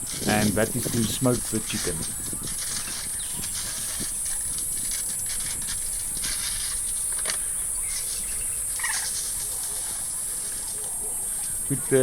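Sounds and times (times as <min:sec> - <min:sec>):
foil crinkling and rustling: 0:00.0 - 0:12.0
steady high-pitched hiss: 0:00.0 - 0:12.0.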